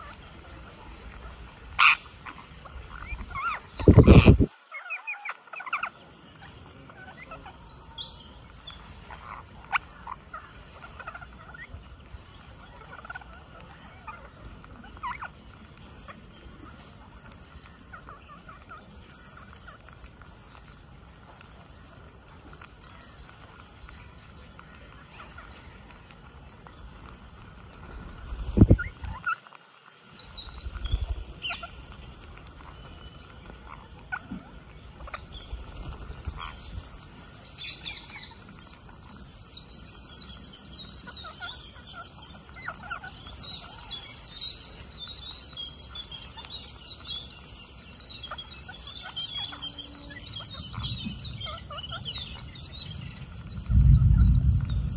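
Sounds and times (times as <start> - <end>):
parakeets chirping and screeching: 0.0 - 54.9.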